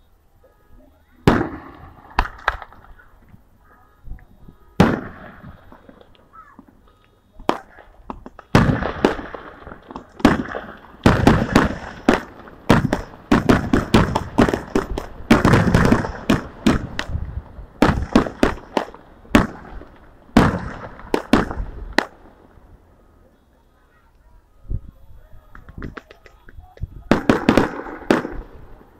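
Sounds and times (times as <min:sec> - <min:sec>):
firework bangs: 0:01.2 - 0:03.5, 0:04.1 - 0:22.9, 0:25.4 - 0:28.9
firework crackling: 0:01.2 - 0:03.7, 0:04.3 - 0:23.0, 0:25.0 - 0:28.9.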